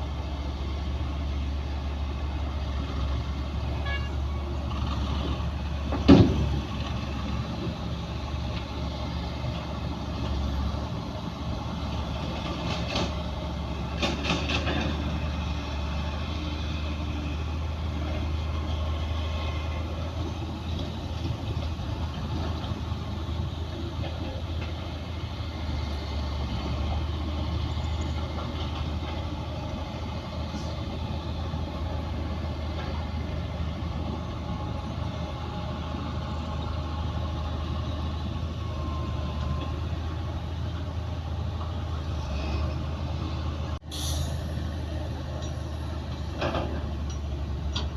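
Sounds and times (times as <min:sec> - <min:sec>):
heavy diesel engines rumbling: 0:00.0 - 0:47.9.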